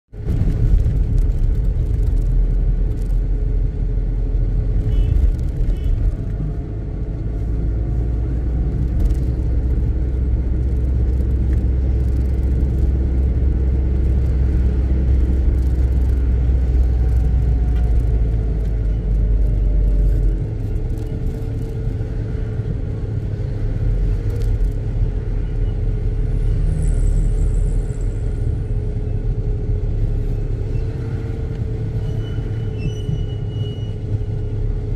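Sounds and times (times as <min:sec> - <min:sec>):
car engine and road rumble: 0:00.1 - 0:34.9.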